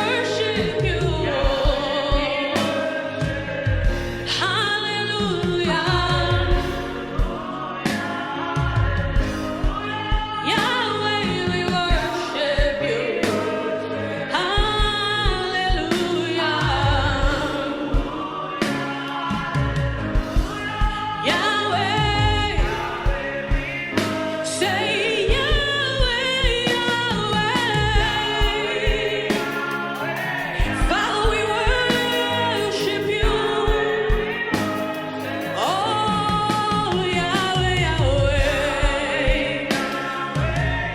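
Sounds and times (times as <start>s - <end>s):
band with steady beat: 0.0s - 40.9s
voices singing gospel: 0.0s - 40.9s.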